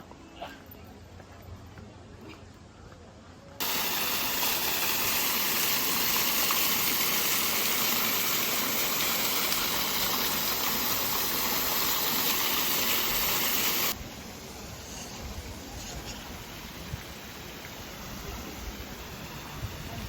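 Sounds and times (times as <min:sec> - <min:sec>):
rushing water: 0:03.6 - 0:20.0.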